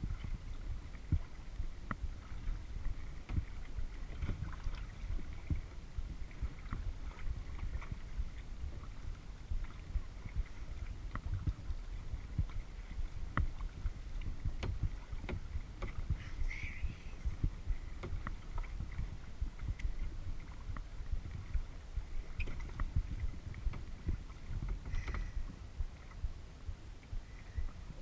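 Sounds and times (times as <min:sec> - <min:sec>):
low rumble: 0:00.0 - 0:28.0
paddle splashing water: 0:00.0 - 0:28.0.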